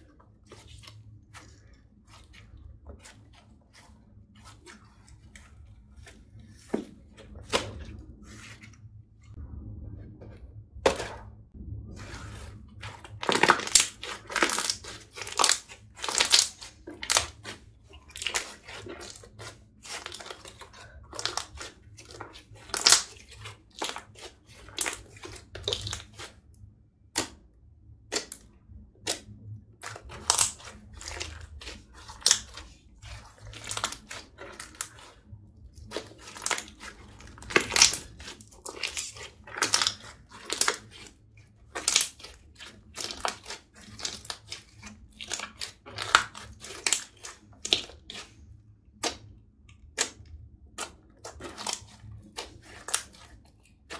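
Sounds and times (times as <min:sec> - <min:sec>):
slime being kneaded: 0:00.0 - 0:09.4, 0:11.9 - 0:26.5, 0:28.1 - 0:53.9.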